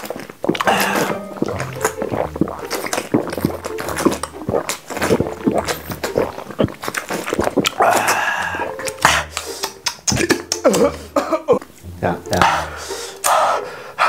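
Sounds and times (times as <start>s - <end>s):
gulping drinks: 0.0s - 13.8s
background music: 0.7s - 6.5s, 7.6s - 14.0s.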